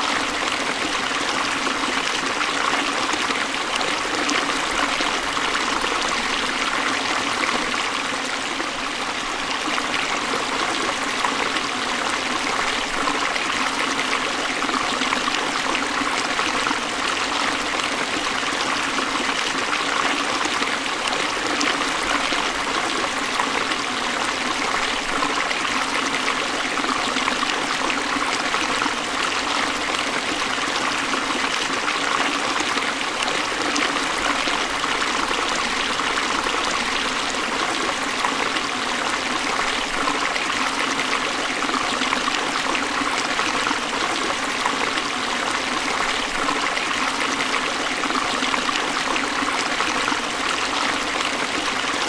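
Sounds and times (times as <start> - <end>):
stream trickling over rocks: 0.0 - 52.0.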